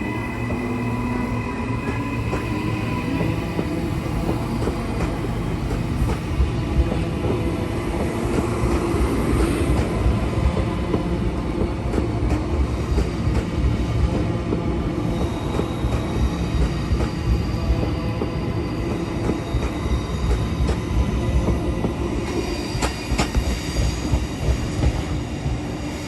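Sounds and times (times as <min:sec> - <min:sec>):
electric train running: 0:00.0 - 0:26.0
steady train tones: 0:00.0 - 0:26.0.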